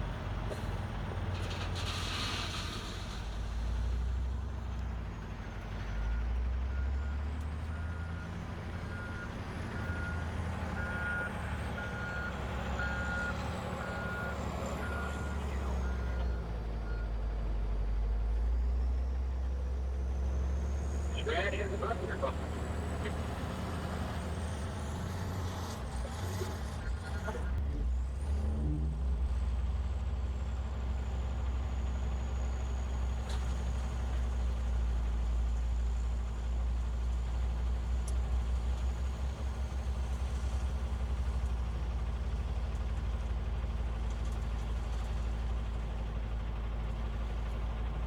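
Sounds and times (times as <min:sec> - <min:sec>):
diesel engine rumbling: 0:00.0 - 0:48.0.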